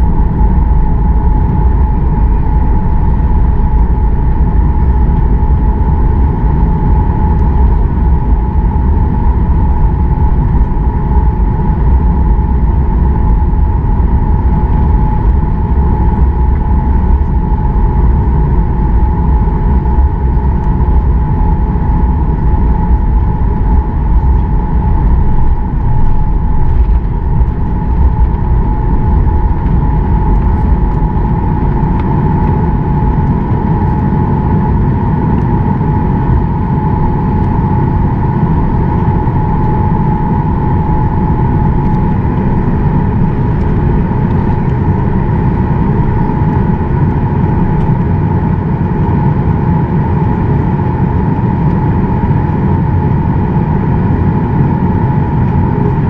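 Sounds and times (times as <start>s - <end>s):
jet engines whining and rumbling: 0.0s - 56.0s.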